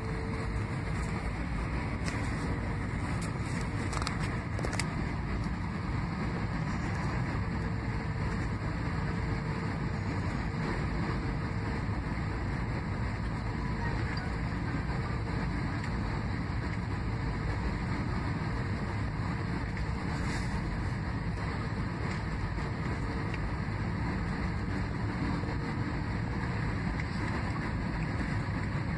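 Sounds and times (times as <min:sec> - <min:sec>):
faint steady hum: 0:00.0 - 0:28.9
jet cabin engine rumble: 0:00.0 - 0:28.9.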